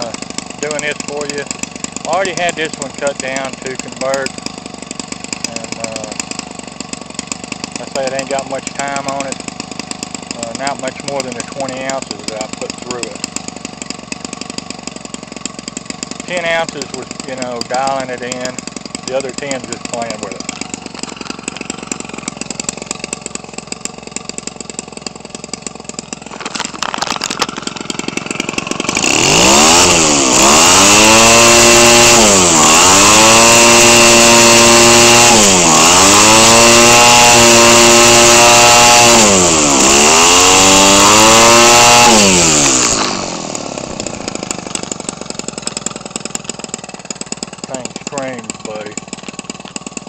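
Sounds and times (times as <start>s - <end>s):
model airplane engine revving: 0.0s - 50.0s.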